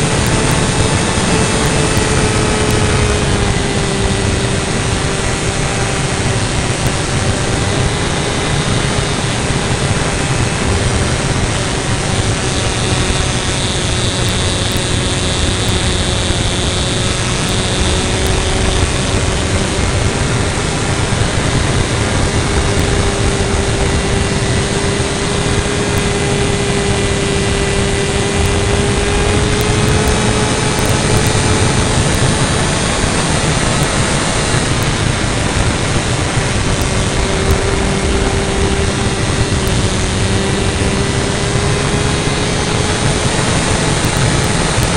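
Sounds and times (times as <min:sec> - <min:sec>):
model airplane motor and propeller: 0:00.0 - 0:44.9
wind rushing over microphone: 0:00.0 - 0:44.9.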